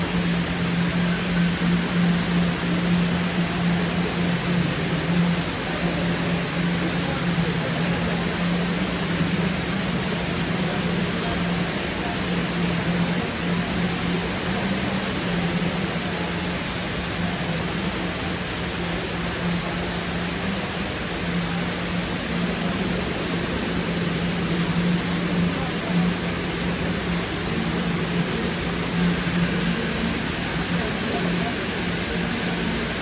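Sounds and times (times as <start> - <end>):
low wavering hum: 0.0 - 33.0
waterfall rushing: 0.0 - 33.0.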